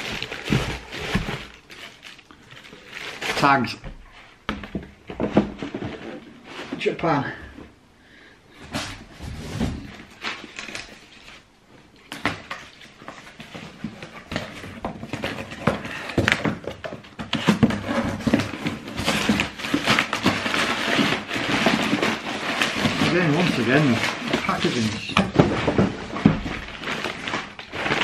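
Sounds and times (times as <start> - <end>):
cardboard crinkling: 0.0 - 7.2, 8.7 - 28.0.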